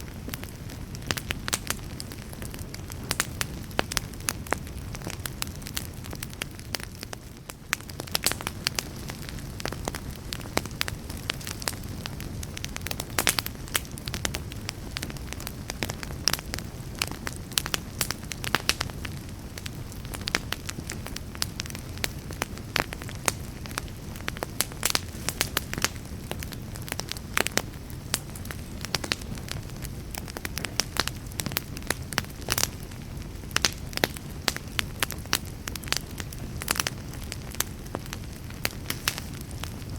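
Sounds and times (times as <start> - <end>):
fire crackling and popping: 0.0 - 39.9
fire flames roaring: 0.0 - 39.9.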